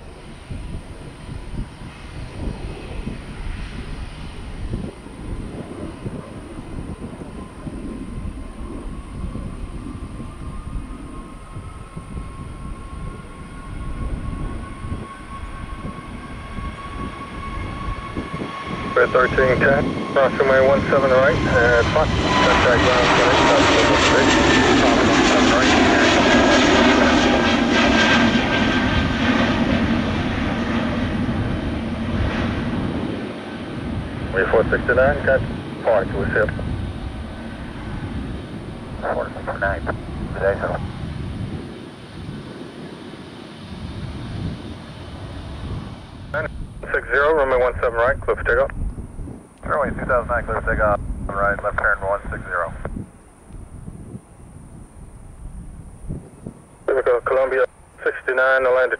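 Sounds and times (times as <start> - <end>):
jet engines rumbling with whine: 0.0 - 58.9.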